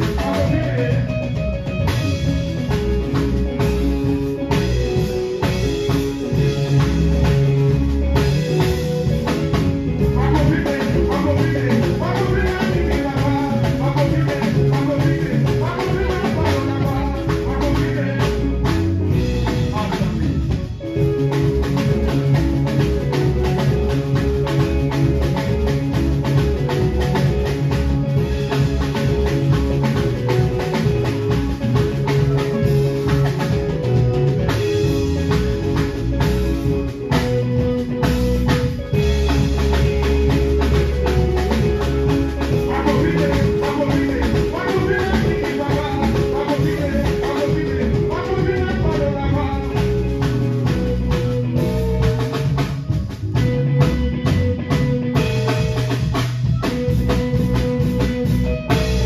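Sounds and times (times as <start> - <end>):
electric guitar lead line: 0.0 - 59.0
live band playing dance groove: 0.0 - 59.0.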